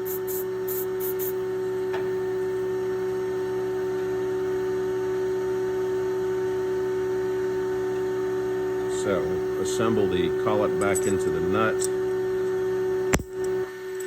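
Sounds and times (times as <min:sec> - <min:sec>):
electrical hum of equipment: 0:00.0 - 0:14.0.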